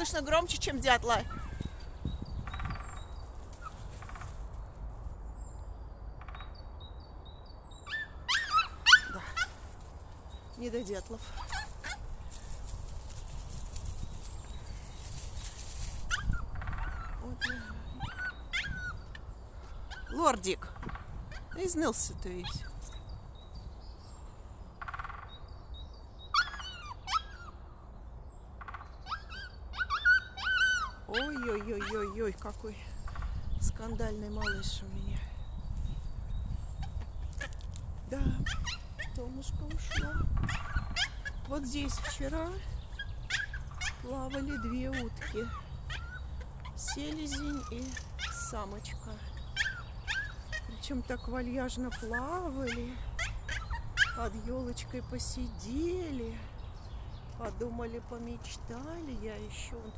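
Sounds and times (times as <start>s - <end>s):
small birds calling: 0.0s - 5.6s, 7.4s - 59.9s.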